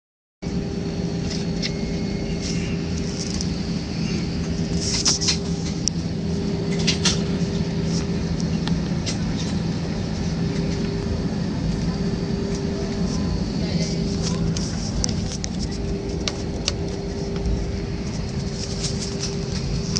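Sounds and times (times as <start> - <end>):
airliner cabin engine and air noise: 0.4 - 19.9
low hum: 0.4 - 19.9.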